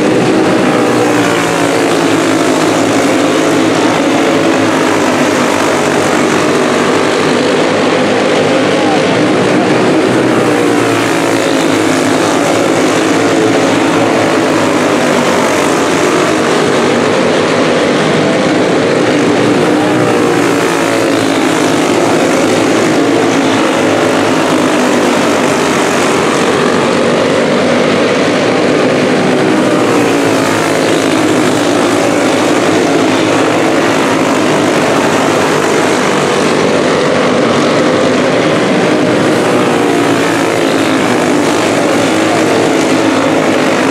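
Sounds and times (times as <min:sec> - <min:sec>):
kart engines racing: 0:00.0 - 0:43.9.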